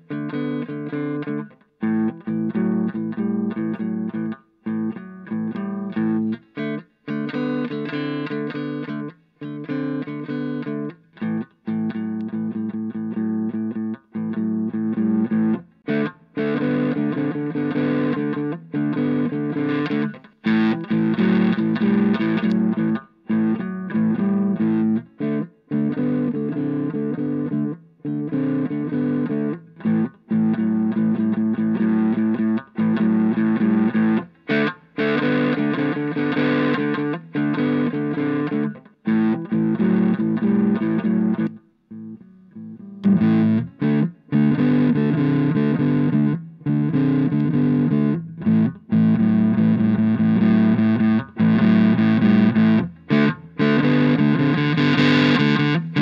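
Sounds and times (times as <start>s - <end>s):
overdriven electric guitar chords: 0.0s - 56.0s.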